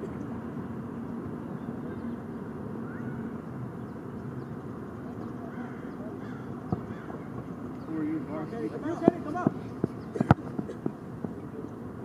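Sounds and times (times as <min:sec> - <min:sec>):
low outdoor rumble: 0:00.0 - 0:12.0
faint distant voices: 0:01.4 - 0:12.0.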